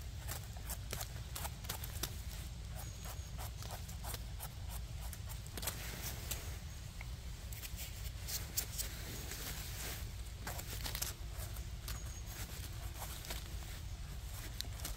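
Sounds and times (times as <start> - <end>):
dry leaves crackling underfoot: 0.0 - 14.9.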